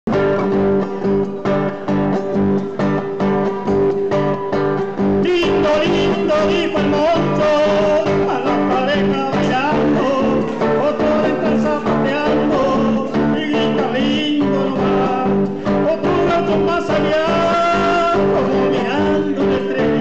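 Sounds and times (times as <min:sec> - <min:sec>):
acoustic guitar strumming: 0:00.1 - 0:20.0
person singing: 0:02.7 - 0:20.0.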